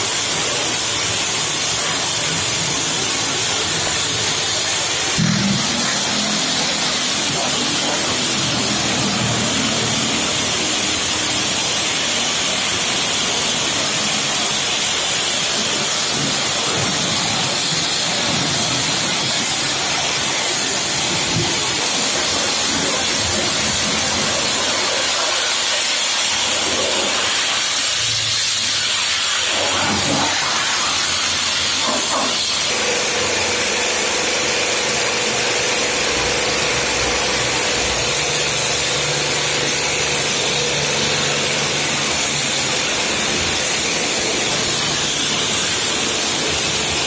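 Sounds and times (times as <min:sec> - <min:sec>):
pressure washer spray hissing: 0:00.0 - 0:47.0.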